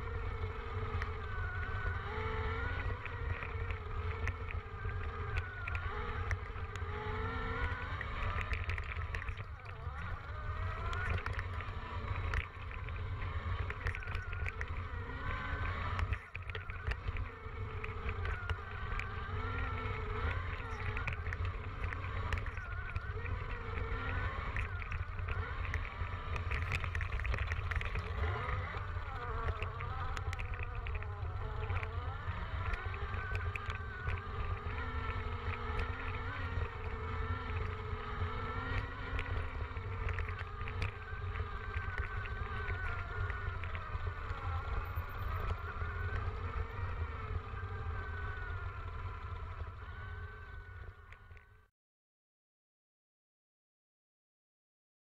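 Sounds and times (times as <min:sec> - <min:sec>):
clicks and knocks on rough trail: 0:00.0 - 0:51.5.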